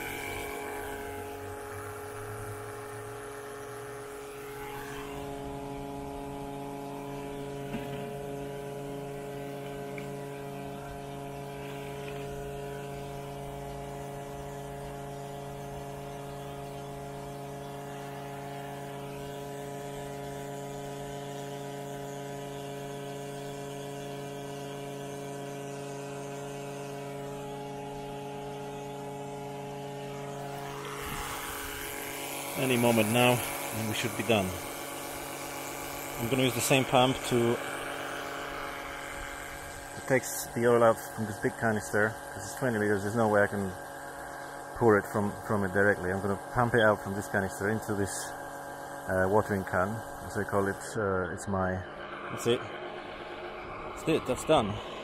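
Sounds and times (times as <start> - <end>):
electric pump humming: 0.0 - 55.0.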